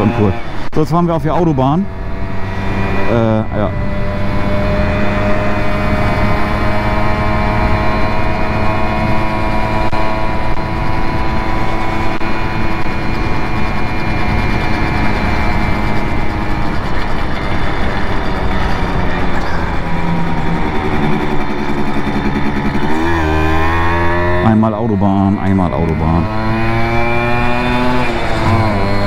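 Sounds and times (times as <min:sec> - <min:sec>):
moped engine at high revs: 0:00.0 - 0:29.0.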